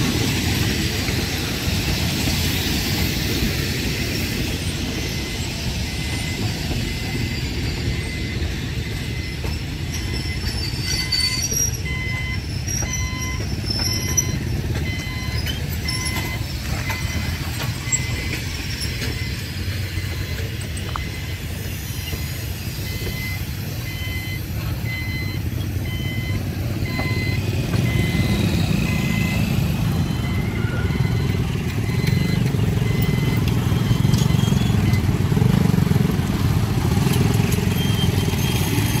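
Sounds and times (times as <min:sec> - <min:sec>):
motorcycle and scooter engines: 0:00.0 - 0:39.0
train coaches rumbling past: 0:00.0 - 0:39.0
high electronic warning beep: 0:00.1 - 0:39.0.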